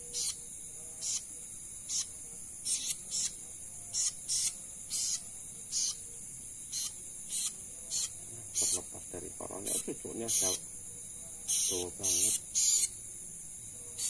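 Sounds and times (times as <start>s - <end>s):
insect chirp: 0.0s - 14.0s
insects trilling: 0.0s - 14.0s.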